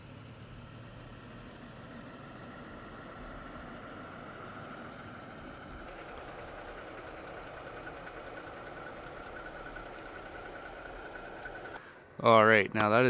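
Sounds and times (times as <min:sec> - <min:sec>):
pickup engine idling: 0:00.0 - 0:12.2.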